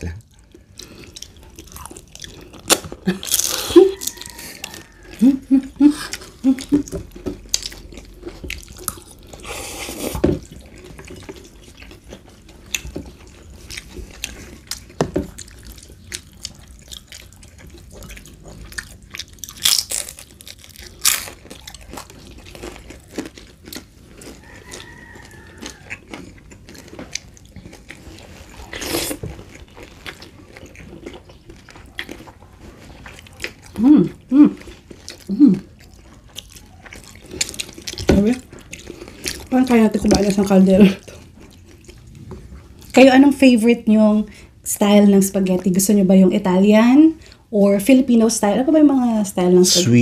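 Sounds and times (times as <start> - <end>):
food crunching: 0.0 - 43.2
wet chewing and slurping: 0.2 - 43.0.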